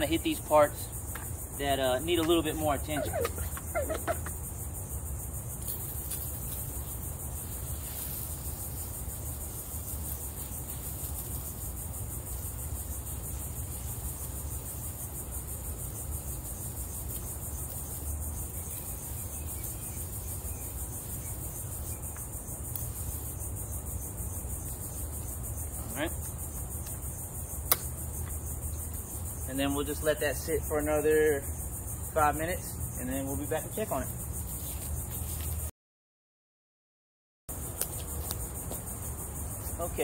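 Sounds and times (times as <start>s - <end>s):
insect chorus pulsing: 0.0s - 35.7s, 37.5s - 40.0s.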